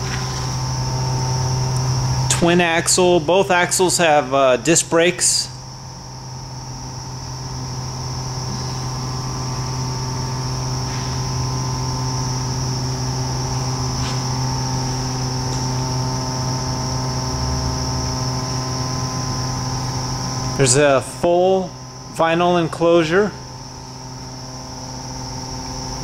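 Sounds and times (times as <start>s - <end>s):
electrical hum: 0.0s - 26.0s
high-pitched whine: 0.0s - 26.0s.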